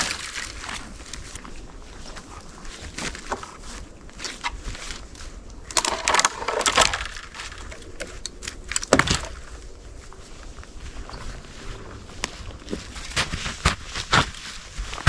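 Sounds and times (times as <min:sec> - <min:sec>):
twigs crackling and snapping: 0:00.0 - 0:15.0.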